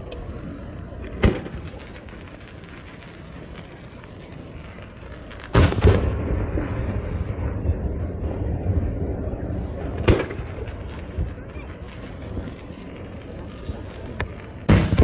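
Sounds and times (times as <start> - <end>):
crickets chirping: 0.0 - 15.0
firework burst with rumbling echo: 0.0 - 15.0
firework mortar thud: 1.0 - 15.0.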